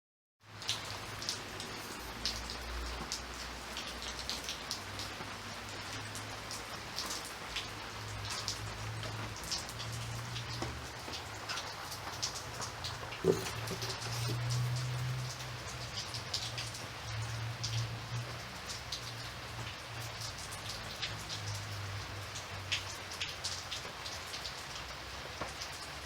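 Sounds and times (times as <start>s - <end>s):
rain hiss with drop ticks: 0.5s - 26.0s.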